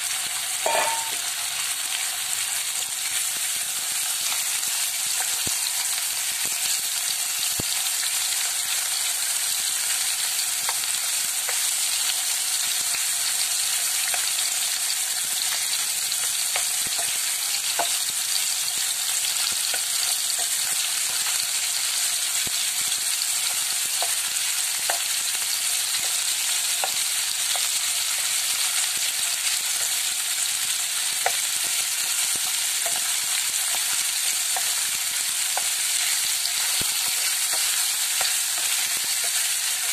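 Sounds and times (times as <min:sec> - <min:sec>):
chicken sizzling in a wok: 0:00.0 - 0:39.9.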